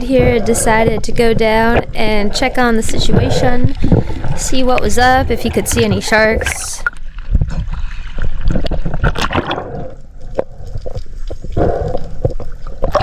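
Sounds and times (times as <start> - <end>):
seawater gurgling and sloshing: 0.0 - 13.0.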